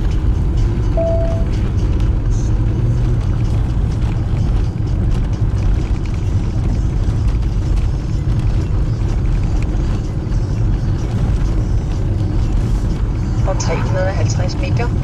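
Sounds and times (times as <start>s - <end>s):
car engine rumble: 0.0s - 15.0s
tyre road noise: 0.0s - 15.0s.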